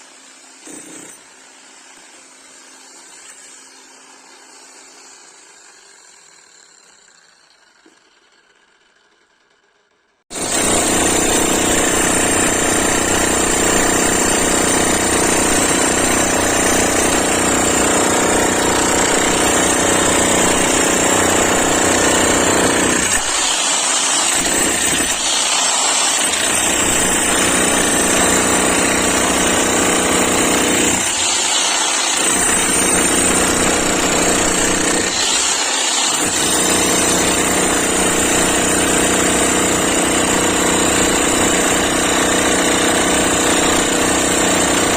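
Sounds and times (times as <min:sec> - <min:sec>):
demolition hammer pounding concrete: 0:00.6 - 0:02.5, 0:10.3 - 0:44.9.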